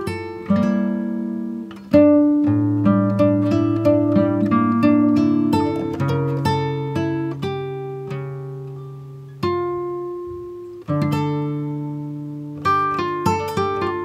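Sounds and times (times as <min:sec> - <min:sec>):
plucked string music: 0:00.0 - 0:14.0.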